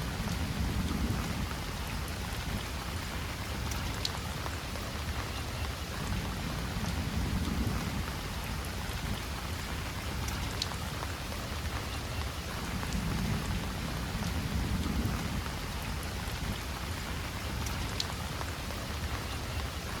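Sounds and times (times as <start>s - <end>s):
heavy rain falling: 0.0s - 20.0s
raindrops ticking close by: 0.0s - 20.0s.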